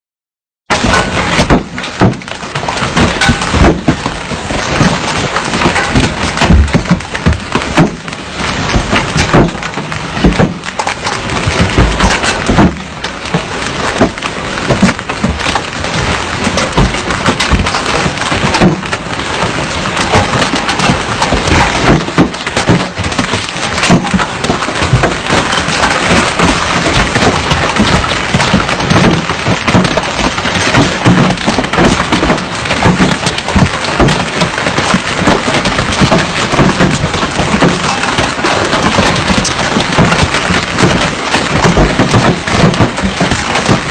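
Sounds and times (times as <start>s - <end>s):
raindrops clattering: 0.7s - 43.9s.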